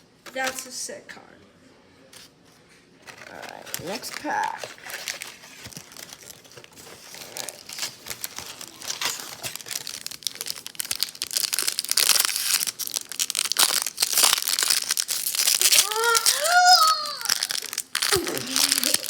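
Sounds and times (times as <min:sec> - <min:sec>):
plastic wrapper crinkling: 0:03.0 - 0:19.0.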